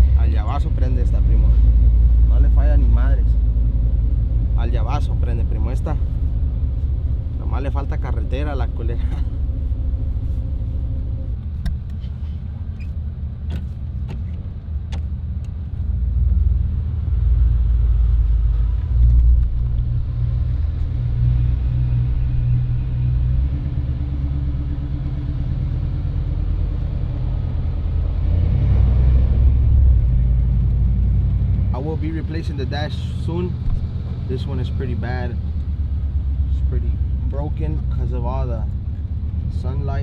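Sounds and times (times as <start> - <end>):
pickup truck engine rumble: 0.0 - 40.0.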